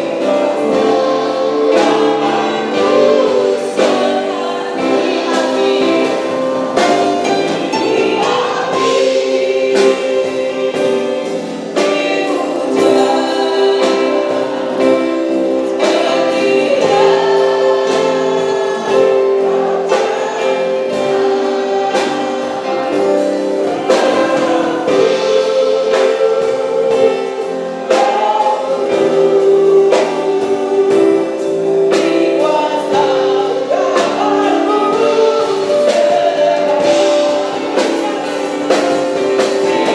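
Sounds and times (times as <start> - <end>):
choir singing gospel song: 0.0 - 39.9
instrumental accompaniment with beat: 0.0 - 39.9.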